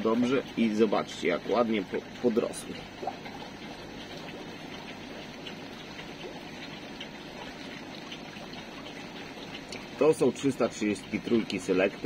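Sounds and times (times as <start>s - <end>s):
aquarium water trickling and bubbling: 0.0s - 12.0s.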